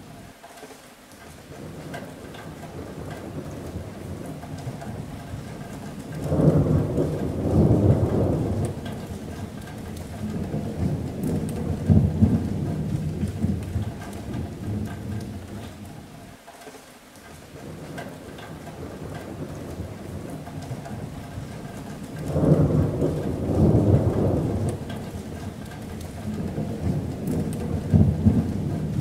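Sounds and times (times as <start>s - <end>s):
rain on a metal roof: 0.0s - 29.0s
thunder rumbling: 1.5s - 16.2s, 17.5s - 29.0s.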